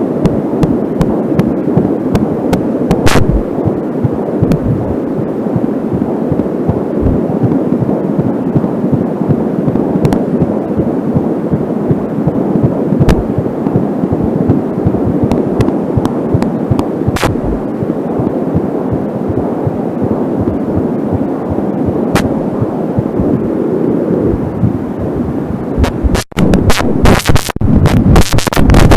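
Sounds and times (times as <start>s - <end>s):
fetal heartbeat whoosh: 0.0s - 28.9s
static crackles: 0.0s - 28.9s.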